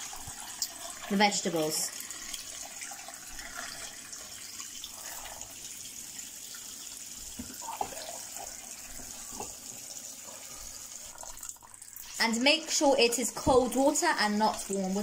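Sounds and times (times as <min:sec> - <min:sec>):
tap water running into a pot: 0:00.0 - 0:15.0.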